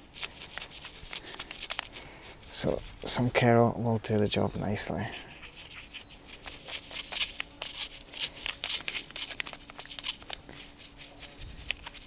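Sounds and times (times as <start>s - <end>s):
brush scrubbing metal: 0.2s - 3.4s, 4.9s - 12.0s.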